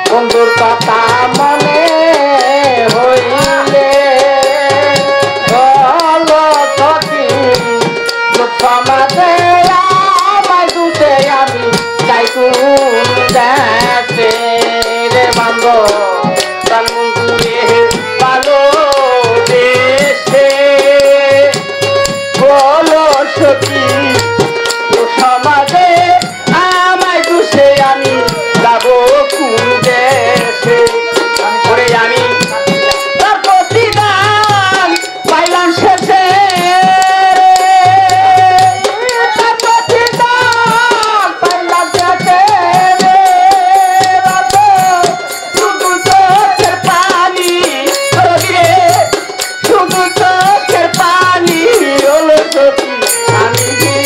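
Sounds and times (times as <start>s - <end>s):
steady drum beat: 0.0s - 54.0s.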